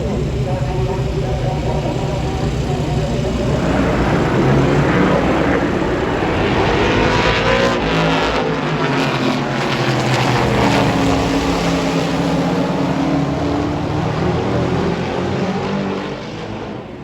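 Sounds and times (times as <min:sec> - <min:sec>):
race truck engines passing: 0:00.0 - 0:17.0.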